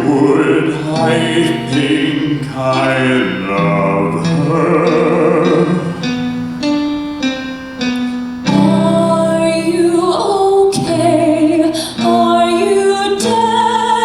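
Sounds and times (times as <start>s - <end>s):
person singing slow song: 0.0s - 7.0s, 8.4s - 14.0s
acoustic guitar: 0.0s - 14.0s.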